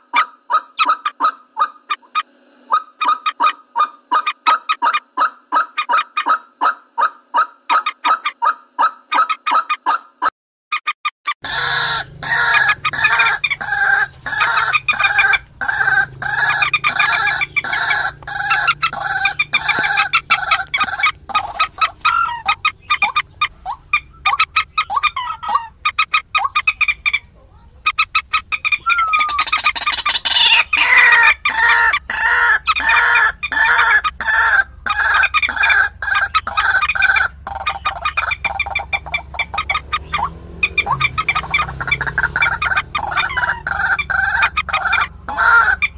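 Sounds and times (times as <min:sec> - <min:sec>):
moorhen clucking calls: 0:00.0 - 0:10.2, 0:10.8 - 0:45.9.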